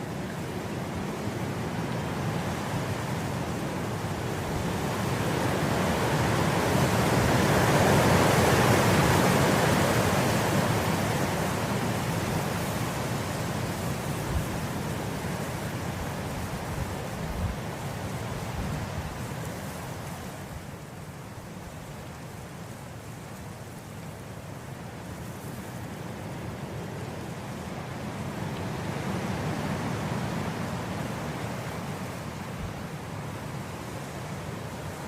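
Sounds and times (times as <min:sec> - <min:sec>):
wind blowing through grass: 0:00.0 - 0:35.0.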